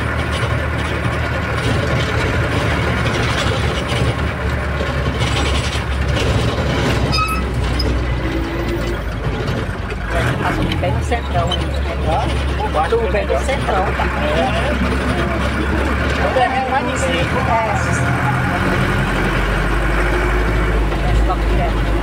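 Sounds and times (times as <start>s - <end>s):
engine and road rumble: 0.0s - 22.0s
vehicle body rattling: 0.0s - 22.0s.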